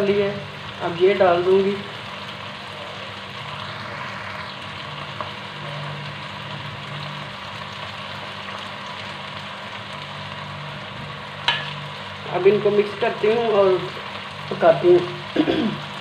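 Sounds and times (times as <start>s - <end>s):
gravy sizzling in a pot: 0.0s - 16.0s.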